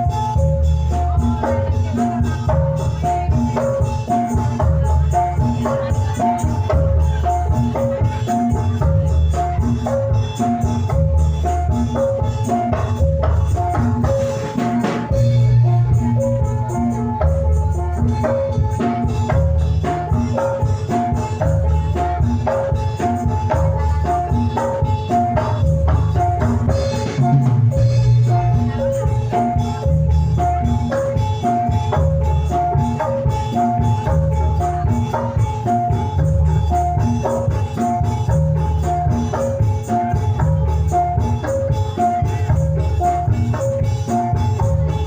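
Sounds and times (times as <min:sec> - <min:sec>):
heavy drumming and bass: 0:00.0 - 0:45.0.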